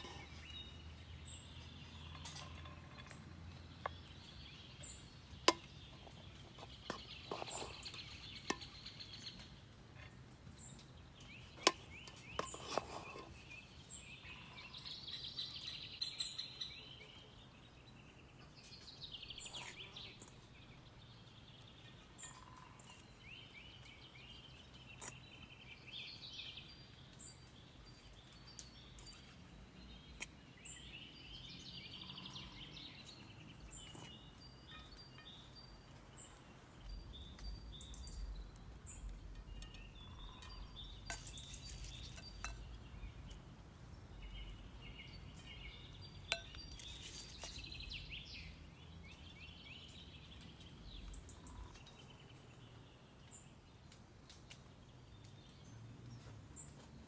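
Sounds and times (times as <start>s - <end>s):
birds singing and chirping: 0.0s - 56.9s.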